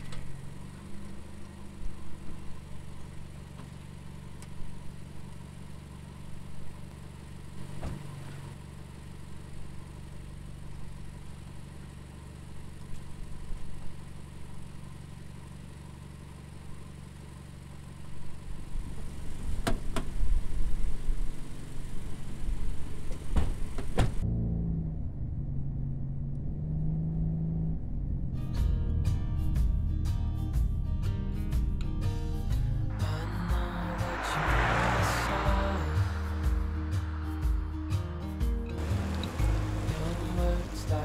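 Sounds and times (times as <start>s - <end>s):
low engine hum: 0.0s - 41.0s.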